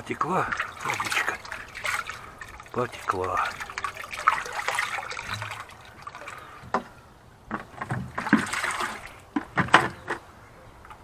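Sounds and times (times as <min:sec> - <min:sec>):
water from hose splashing into tub: 0:00.0 - 0:10.0.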